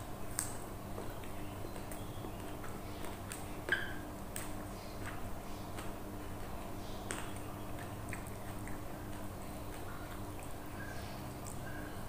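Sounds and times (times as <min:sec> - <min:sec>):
steady low hum: 0:00.0 - 0:12.0
person chewing food: 0:00.4 - 0:12.0.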